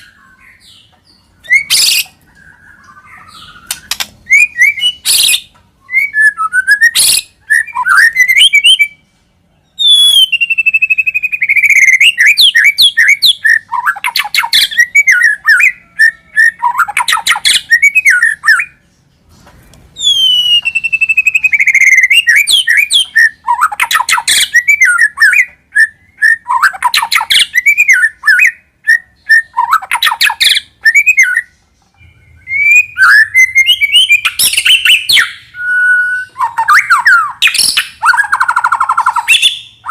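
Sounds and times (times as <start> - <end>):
bird singing whistled phrases: 1.4 - 9.0, 9.8 - 18.8, 20.0 - 39.9.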